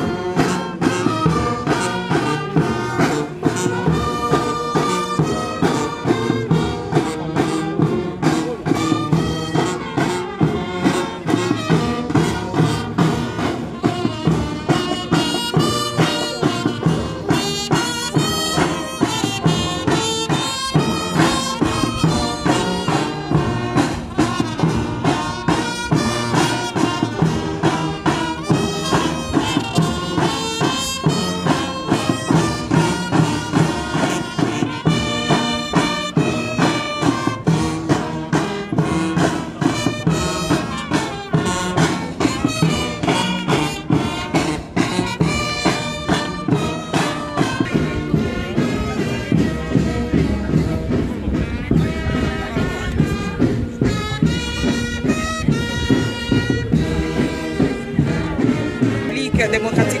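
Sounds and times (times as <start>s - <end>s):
brass band music: 0.0s - 60.0s.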